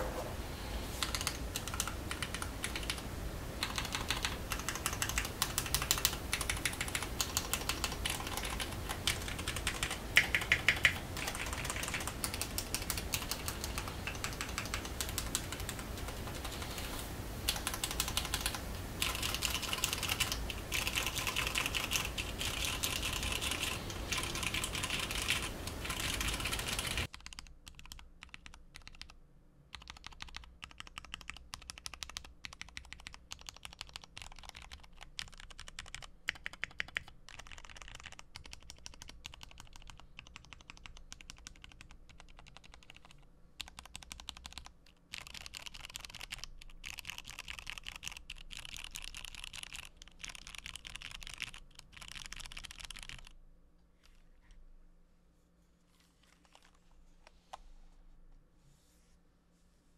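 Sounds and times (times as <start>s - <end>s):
background hiss: 0.0s - 59.9s
mechanical keyboard typing: 1.0s - 3.0s, 3.6s - 16.8s, 17.5s - 53.3s.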